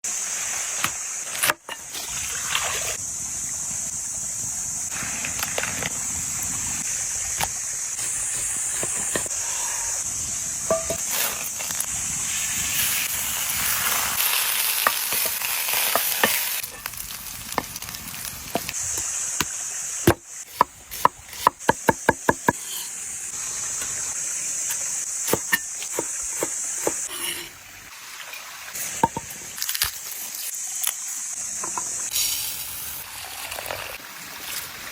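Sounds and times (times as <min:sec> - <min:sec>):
food sizzling over fire: 0:00.0 - 0:34.9.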